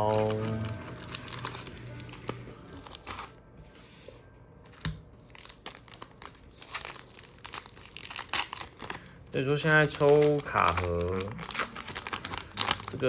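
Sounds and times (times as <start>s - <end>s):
foil wrapper crinkling and tearing: 0.0s - 3.4s, 5.2s - 13.0s.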